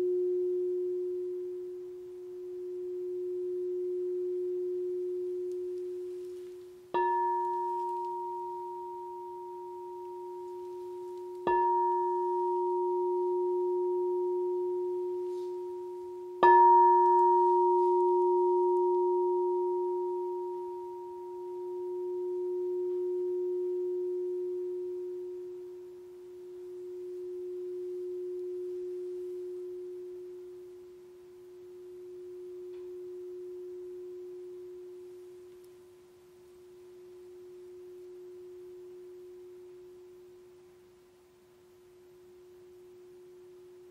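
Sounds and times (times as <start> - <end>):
singing bowl ringing: 0.0 - 40.4.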